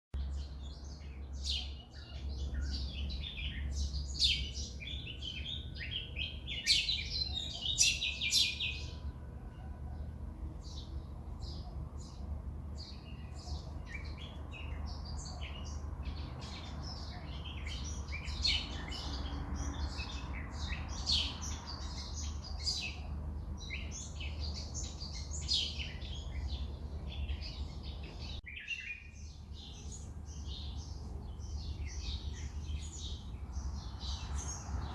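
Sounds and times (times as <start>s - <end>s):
birds chirping and calling: 0.2s - 34.9s.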